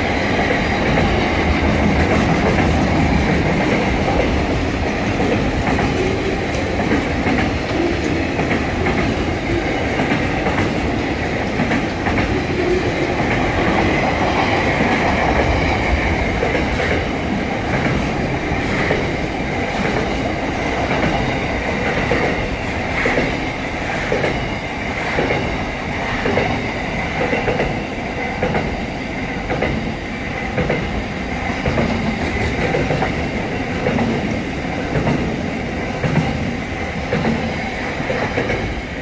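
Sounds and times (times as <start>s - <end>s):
steel wheels rumbling on rail: 0.0s - 39.0s.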